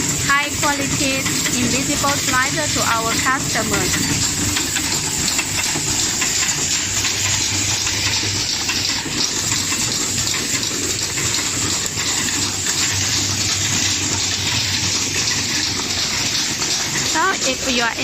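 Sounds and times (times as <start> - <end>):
machine running with dense hiss: 0.0 - 18.0.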